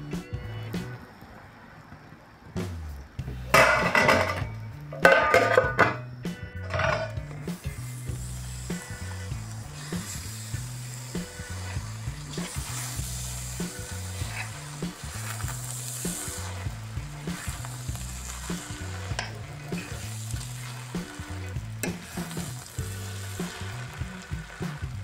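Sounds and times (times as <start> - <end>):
background music with bass: 0.0 - 1.2, 2.6 - 25.0
food sizzling in a pan: 3.2 - 25.0.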